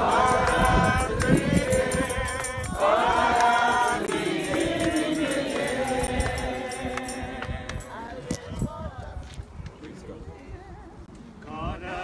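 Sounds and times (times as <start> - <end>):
group singing a hymn: 0.0 - 9.3, 10.4 - 12.0.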